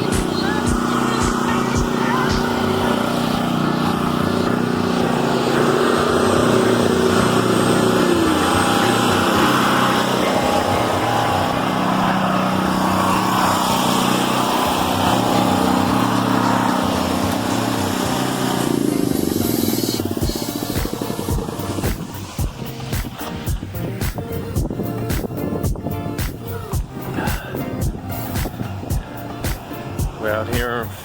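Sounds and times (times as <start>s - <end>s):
carpet cleaning machine droning: 0.0s - 31.0s.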